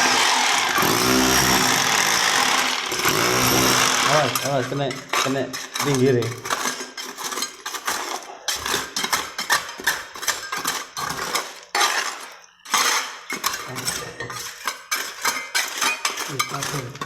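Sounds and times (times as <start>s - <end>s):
metal tools chipping concrete: 0.0s - 17.0s.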